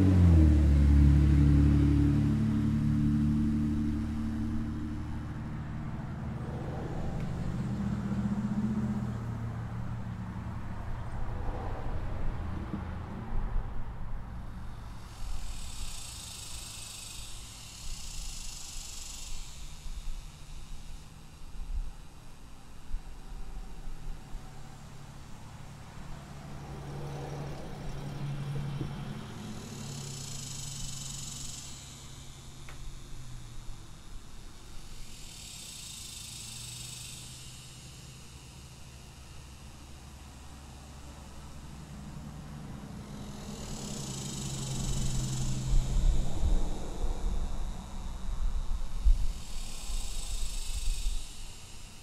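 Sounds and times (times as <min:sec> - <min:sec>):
cicadas buzzing: 0:00.0 - 0:52.0
passing vehicles humming: 0:00.0 - 0:52.0.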